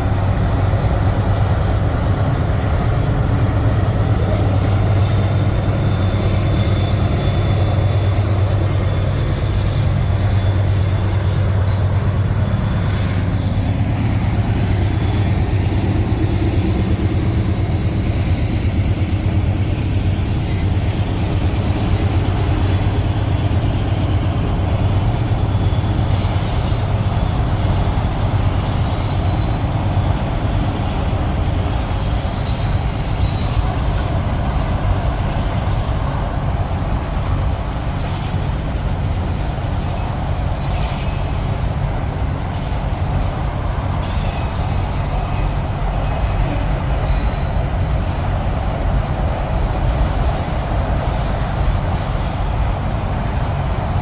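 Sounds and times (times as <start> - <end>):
freight train rumbling past: 0.0 - 54.0
highway traffic noise: 0.0 - 54.0.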